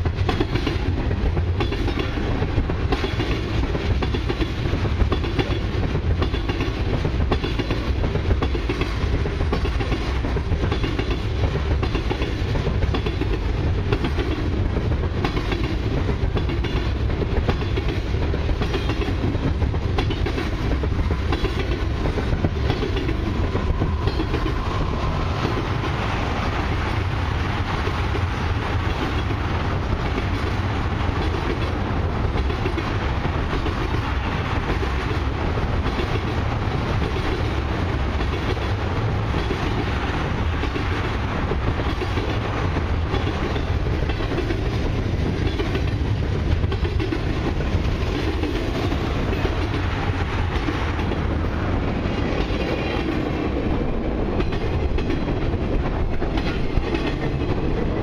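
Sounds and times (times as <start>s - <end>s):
train wheels rumbling on rail: 0.0s - 58.0s
wheels clacking over rail joints: 0.0s - 58.0s.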